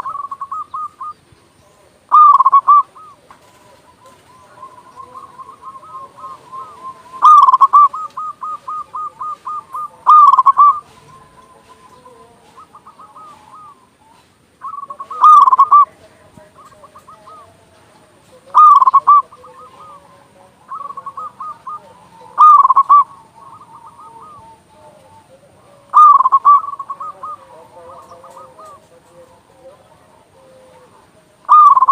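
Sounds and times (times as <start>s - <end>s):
dove rolling coo: 0.0s - 1.2s, 2.1s - 31.9s
low coos from other doves: 0.0s - 31.9s
quick repeated coo notes: 2.1s - 31.9s.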